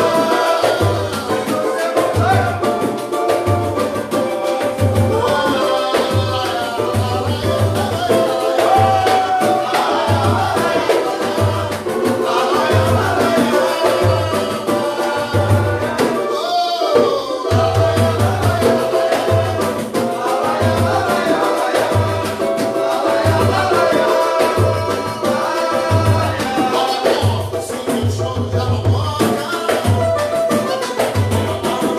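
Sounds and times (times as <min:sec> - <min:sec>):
light percussion: 0:00.0 - 0:31.9
voices singing: 0:00.0 - 0:31.9.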